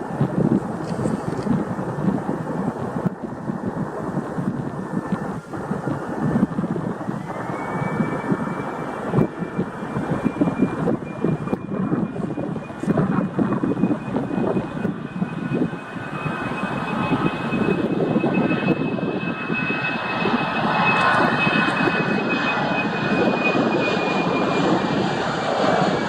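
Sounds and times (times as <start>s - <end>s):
jet engine roar with whine: 0.0s - 26.0s.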